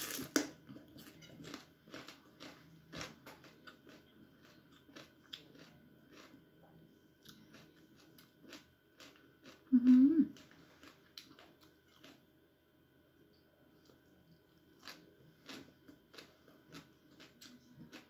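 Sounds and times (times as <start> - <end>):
person chewing food: 0.0 - 12.2, 13.7 - 18.0.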